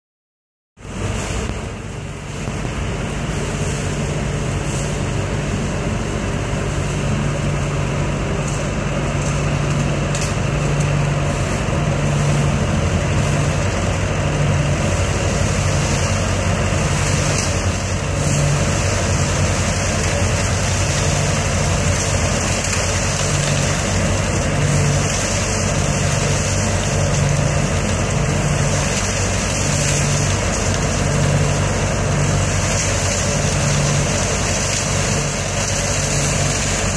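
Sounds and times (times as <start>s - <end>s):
leaf vacuum running: 0.8s - 36.9s
low pulsing engine hum: 0.8s - 36.9s.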